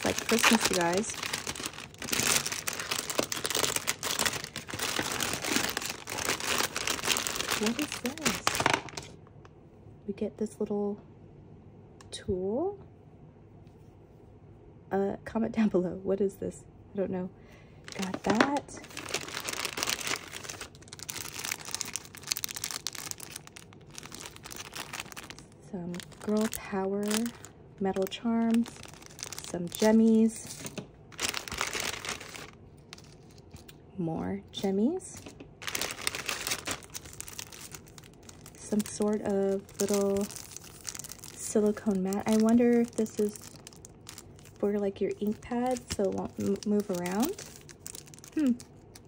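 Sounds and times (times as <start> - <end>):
packaging crinkling: 0.0 - 9.2, 17.8 - 33.8, 34.6 - 49.0.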